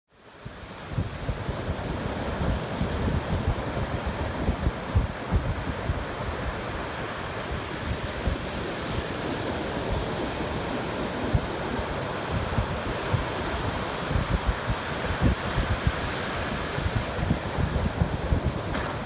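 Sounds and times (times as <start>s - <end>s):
wind buffeting microphone: 0.4s - 19.0s
ocean surf breaking: 0.5s - 19.0s.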